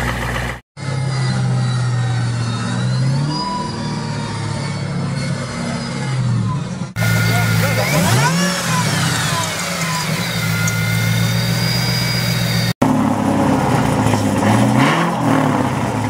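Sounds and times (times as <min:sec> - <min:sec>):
car engine idling and revving: 0:00.0 - 0:16.0
supercharger whine: 0:00.0 - 0:16.0.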